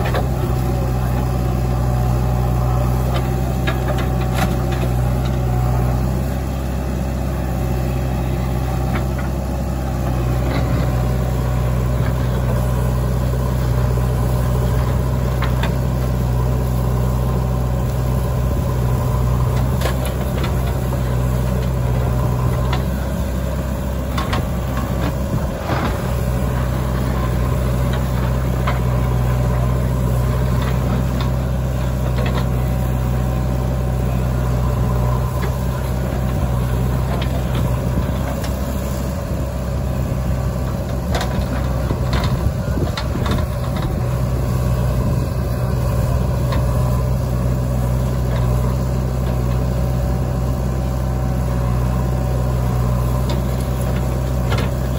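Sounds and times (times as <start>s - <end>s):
diesel engine running under load: 0.0s - 54.9s.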